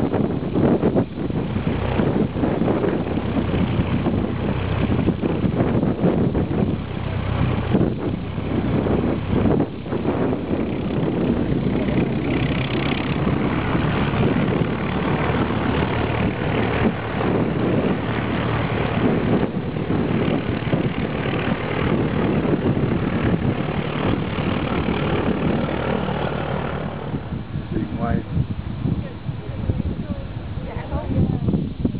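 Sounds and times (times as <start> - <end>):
light aircraft engine and propeller: 0.0 - 31.9.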